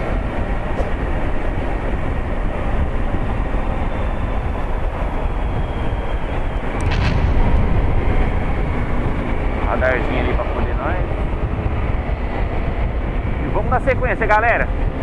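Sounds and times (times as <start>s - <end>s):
wind and road rush: 0.0s - 15.0s.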